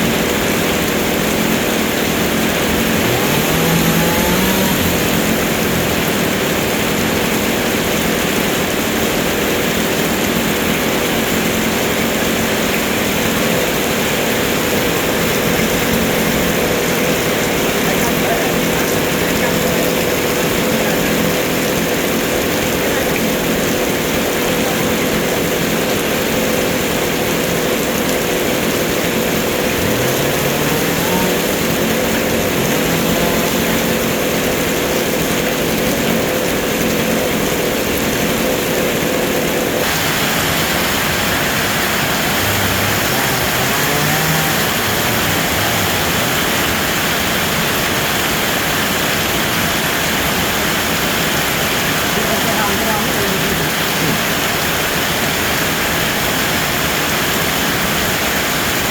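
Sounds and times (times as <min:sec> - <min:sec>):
motor humming: 0:00.0 - 0:09.1, 0:09.9 - 0:55.2
constant rushing noise: 0:00.0 - 0:58.9.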